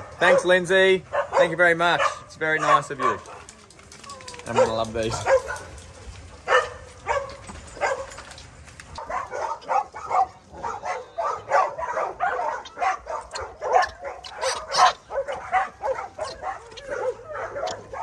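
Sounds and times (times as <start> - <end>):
dogs barking and yelping: 0.0 - 18.0.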